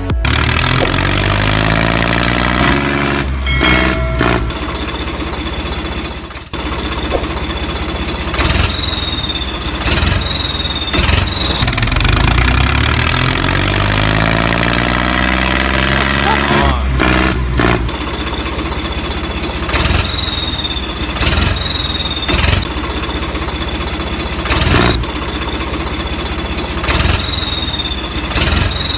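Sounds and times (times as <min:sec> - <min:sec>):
vehicle engine revving: 0:00.0 - 0:28.9.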